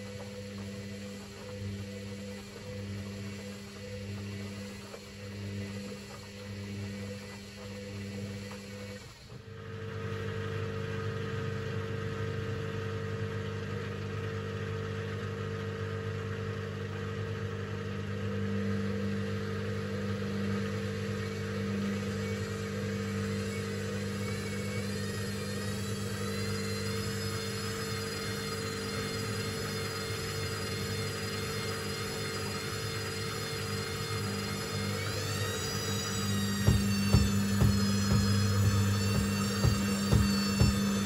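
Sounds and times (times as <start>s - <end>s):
washing machine motor humming: 0.0s - 41.0s.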